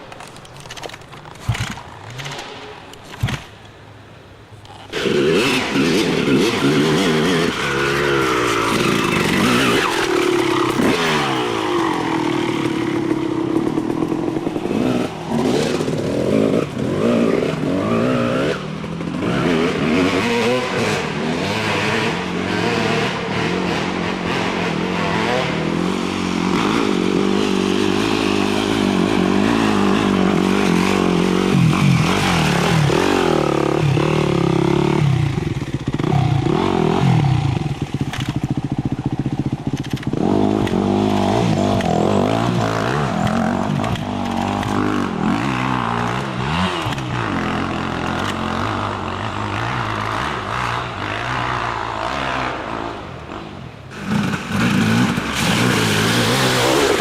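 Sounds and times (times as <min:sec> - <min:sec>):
dirt bike engines revving: 0:04.2 - 0:57.0.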